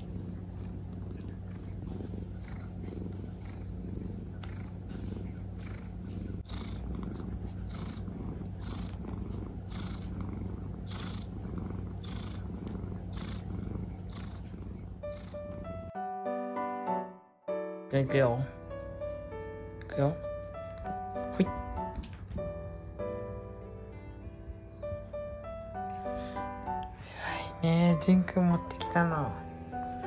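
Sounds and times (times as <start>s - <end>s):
cat purring: 0.0s - 16.0s, 18.0s - 30.0s
piano music: 0.0s - 30.0s.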